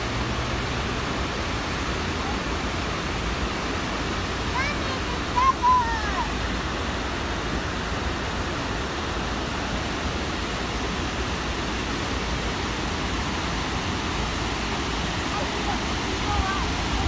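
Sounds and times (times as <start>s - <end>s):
water rushing over a weir: 0.0s - 17.0s.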